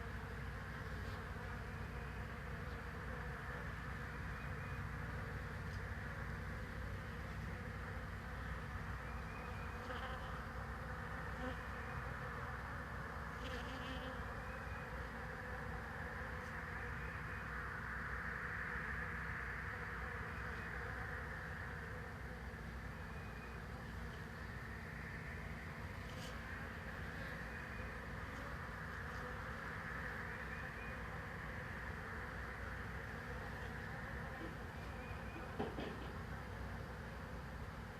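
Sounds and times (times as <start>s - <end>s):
single bees buzzing past: 0.0s - 17.6s, 18.2s - 37.9s
bees humming around hive: 0.0s - 37.9s.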